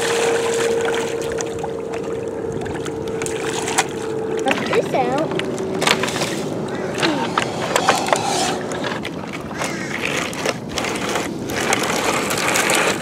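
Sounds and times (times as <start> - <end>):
outdoor noise: 0.0 - 13.0.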